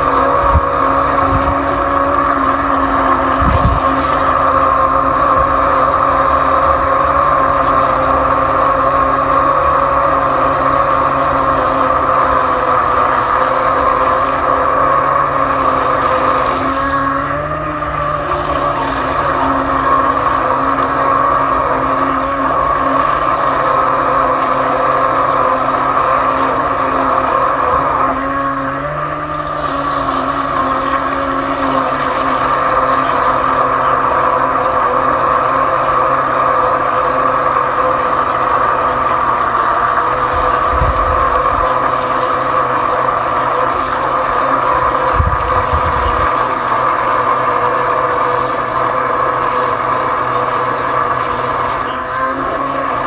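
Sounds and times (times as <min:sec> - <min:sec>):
steady motor drone: 0:00.0 - 0:53.0.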